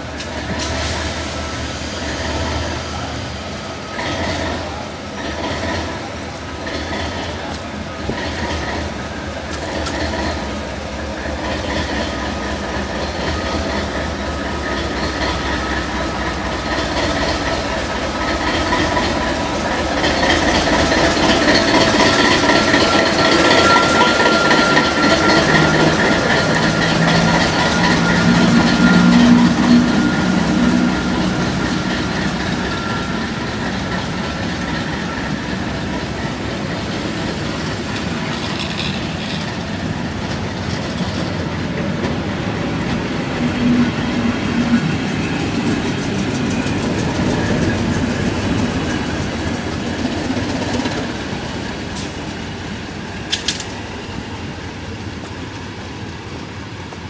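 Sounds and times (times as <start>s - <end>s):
diesel train engine droning: 0.0s - 57.0s
wheels clickety-clack over rail joints: 0.0s - 57.0s.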